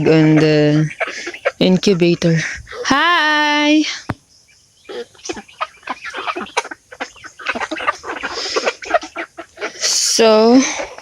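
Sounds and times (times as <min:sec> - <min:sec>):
chickens scuffling: 0:00.0 - 0:02.9, 0:04.0 - 0:11.0
chickens clucking: 0:00.0 - 0:11.0.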